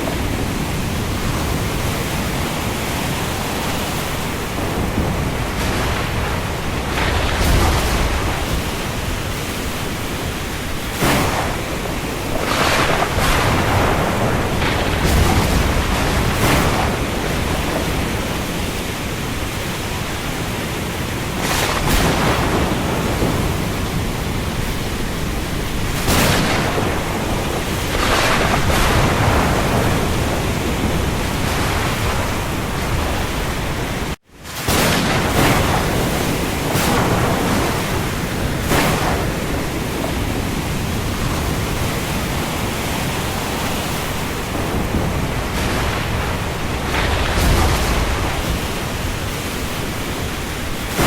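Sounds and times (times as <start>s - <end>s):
rain over the sea: 0.0s - 51.0s
surf washing: 0.0s - 51.0s.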